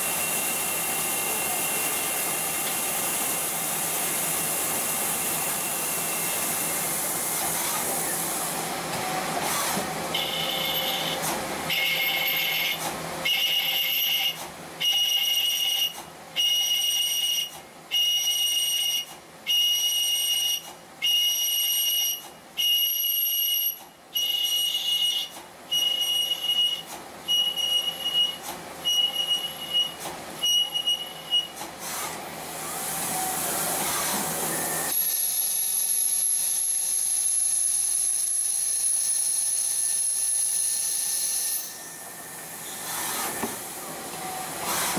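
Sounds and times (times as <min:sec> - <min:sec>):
coolant hiss and machine noise: 0:00.0 - 0:44.9.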